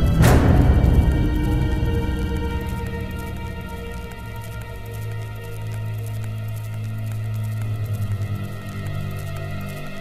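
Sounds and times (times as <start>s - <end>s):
low drone: 0.0s - 10.0s
faint ticks: 0.3s - 10.0s.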